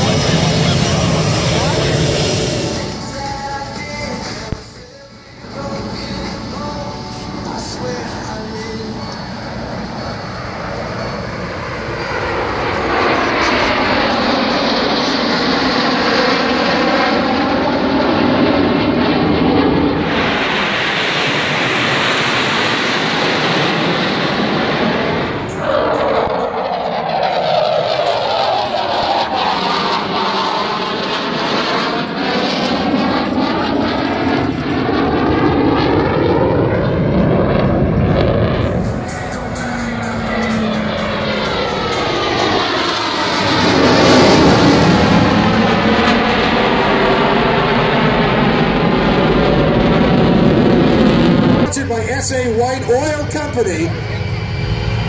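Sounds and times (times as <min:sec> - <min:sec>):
jets flying past roaring: 0:00.0 - 0:55.0.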